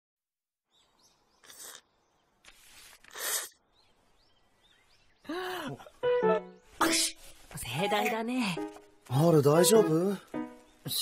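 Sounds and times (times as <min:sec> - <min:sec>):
faint birds chirping: 0:00.6 - 0:11.0.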